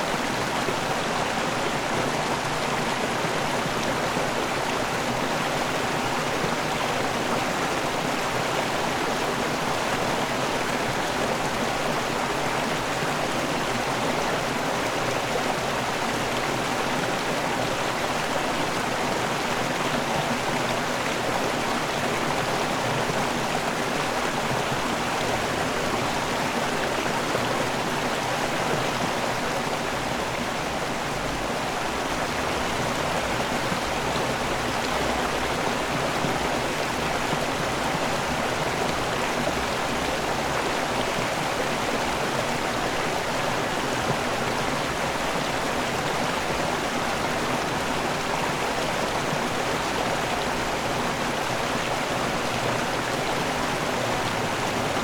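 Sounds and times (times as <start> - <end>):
waterfall and rushing river: 0.0 - 55.0.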